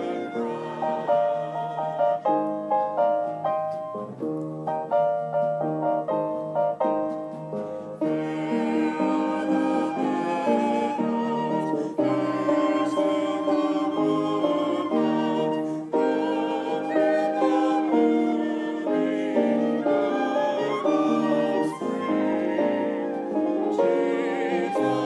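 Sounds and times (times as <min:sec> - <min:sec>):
flute melody: 0:00.0 - 0:25.0
piano playing hymn: 0:00.0 - 0:25.0.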